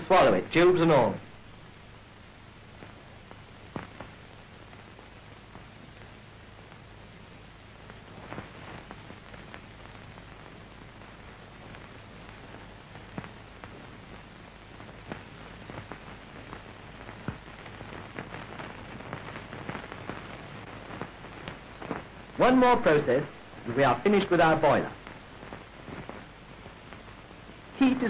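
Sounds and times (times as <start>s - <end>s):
crackles and pops: 0.0s - 28.0s
film soundtrack hiss: 0.0s - 28.0s.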